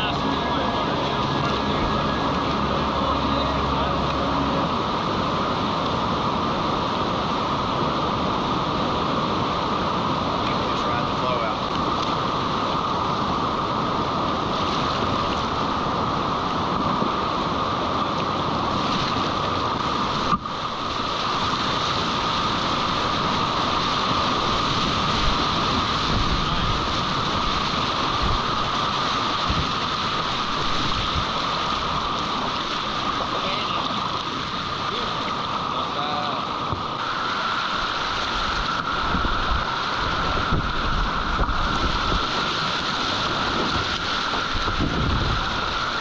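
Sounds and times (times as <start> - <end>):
whitewater rushing over rocks: 0.0 - 46.0.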